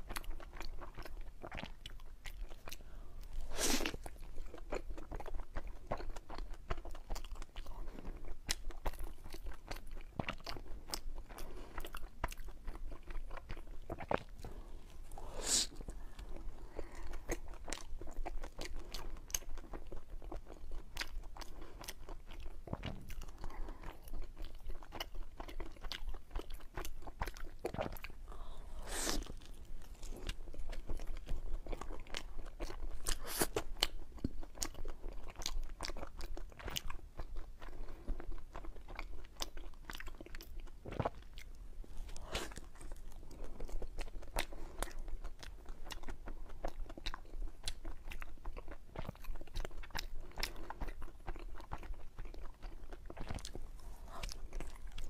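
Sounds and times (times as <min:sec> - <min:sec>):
close chewing and mouth clicks: 0:00.0 - 0:55.0.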